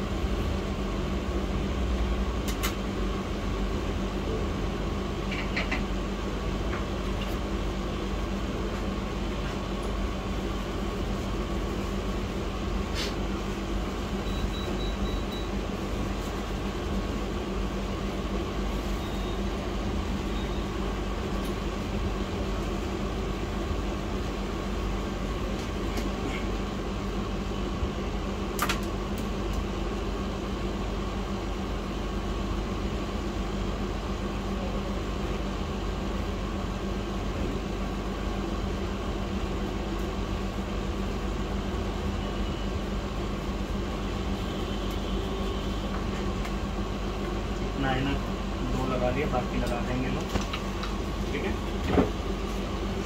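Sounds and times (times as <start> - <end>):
fan hum: 0.0 - 53.0.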